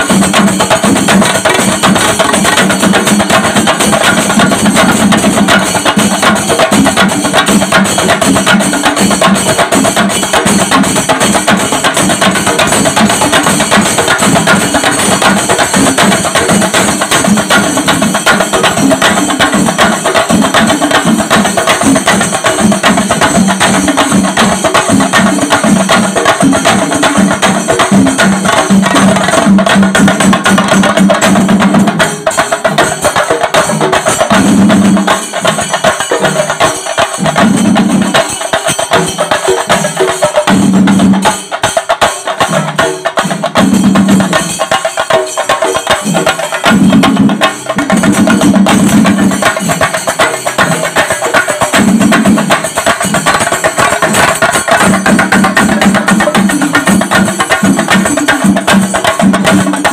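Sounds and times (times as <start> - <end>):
drums beaten with sticks: 0.0 - 59.9.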